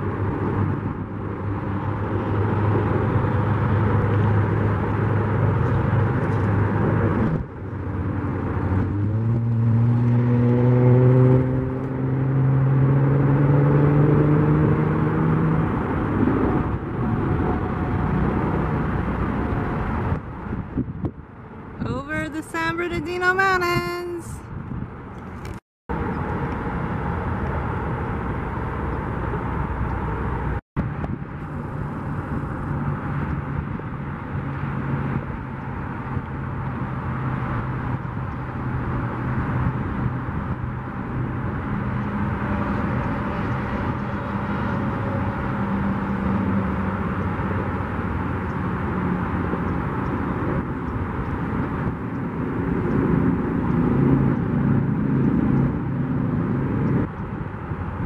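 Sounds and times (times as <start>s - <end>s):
distant jet aircraft roar: 0.0s - 58.0s.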